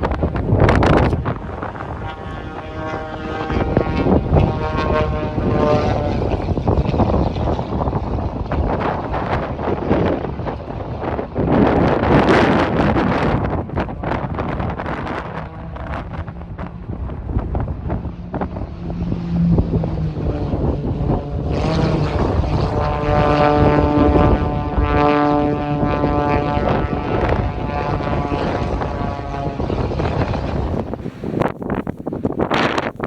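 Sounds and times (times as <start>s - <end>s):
high-pitched propeller drone: 0.0s - 31.8s
propeller airplane engine: 0.0s - 33.0s
wind buffeting microphone: 0.0s - 33.0s.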